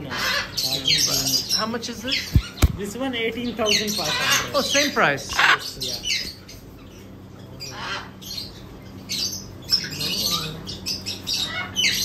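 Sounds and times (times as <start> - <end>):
macaws squawking: 0.0 - 7.0, 7.6 - 12.0.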